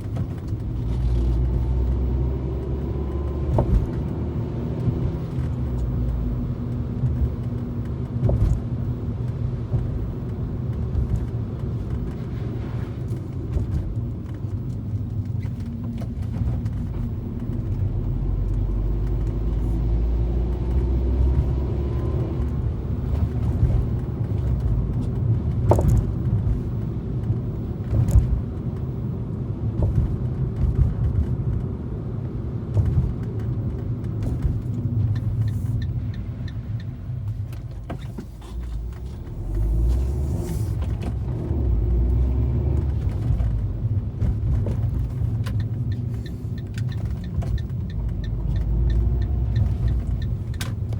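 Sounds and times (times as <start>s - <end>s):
car engine and road rumble: 0.0s - 50.9s
sharp clicks from under car: 0.0s - 50.9s.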